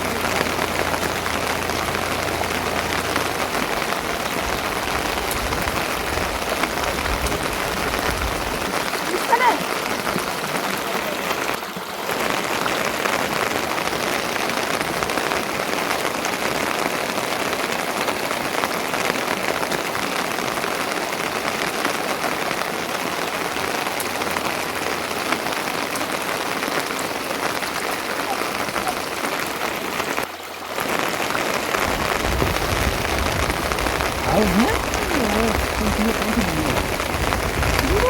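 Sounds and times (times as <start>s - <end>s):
steady rain pattering: 0.0s - 38.0s.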